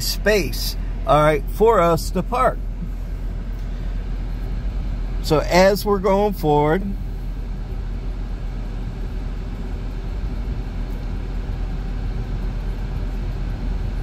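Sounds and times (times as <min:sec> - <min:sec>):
low rumble inside vehicle cabin: 0:00.0 - 0:14.0.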